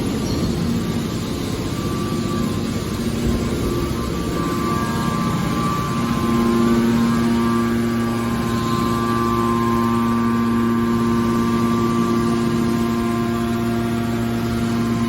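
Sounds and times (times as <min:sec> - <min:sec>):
electric motor and pump humming: 0:00.0 - 0:15.0.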